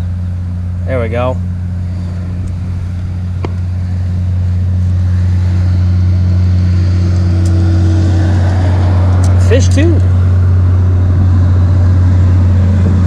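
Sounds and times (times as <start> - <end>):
highway traffic hum: 0.0 - 13.0.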